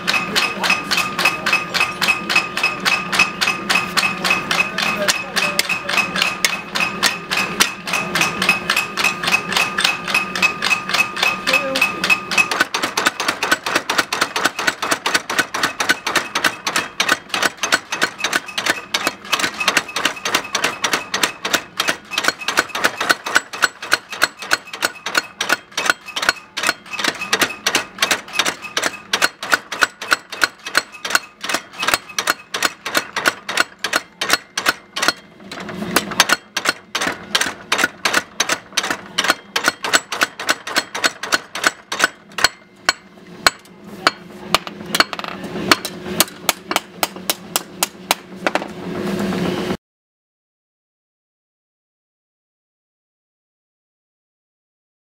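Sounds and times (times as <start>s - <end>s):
power hammer striking steel: 0.0s - 48.8s.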